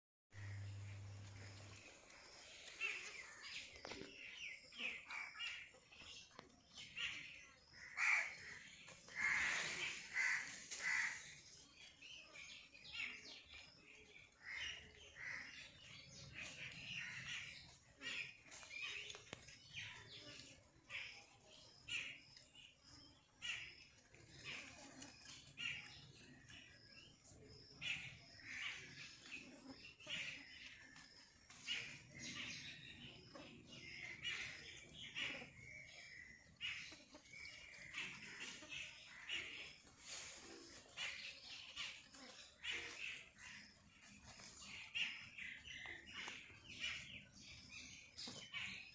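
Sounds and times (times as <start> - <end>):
birds calling: 0.4 - 48.9.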